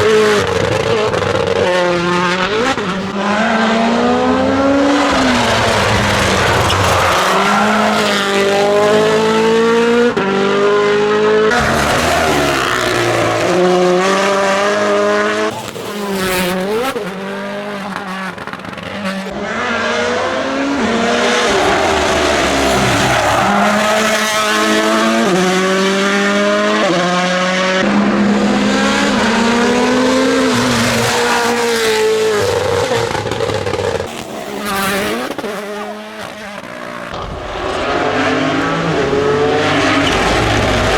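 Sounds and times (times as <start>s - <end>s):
rally cars accelerating hard: 0.0s - 40.9s.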